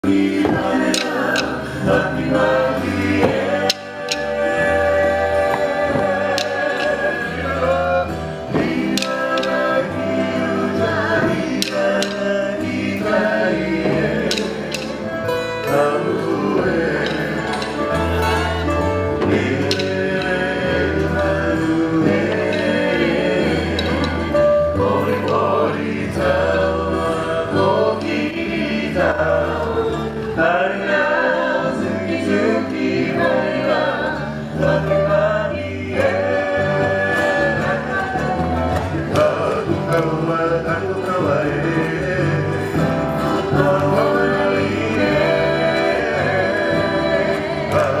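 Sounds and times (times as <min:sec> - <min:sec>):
group of voices singing: 0:00.0 - 0:48.0
instrumental music with bass line: 0:00.0 - 0:48.0.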